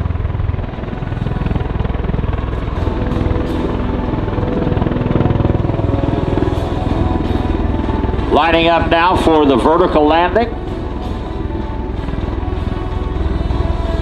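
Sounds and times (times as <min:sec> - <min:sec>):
turboshaft engine whine: 0:00.0 - 0:14.0
rotors beating: 0:00.1 - 0:14.0.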